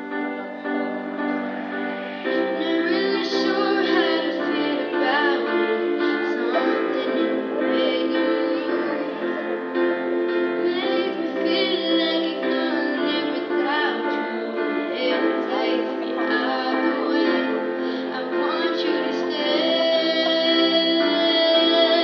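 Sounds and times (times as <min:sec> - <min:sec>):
amplified backing music: 0:00.0 - 0:22.0
woman singing into a microphone: 0:02.1 - 0:22.0.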